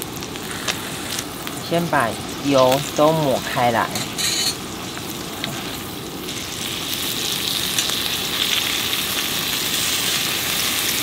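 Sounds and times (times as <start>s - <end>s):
seafood sizzling on a griddle: 0.0s - 11.0s.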